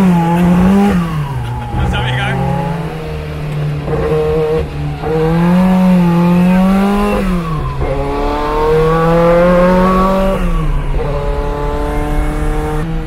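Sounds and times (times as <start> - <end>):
car engine pulling hard: 0.0 - 13.0.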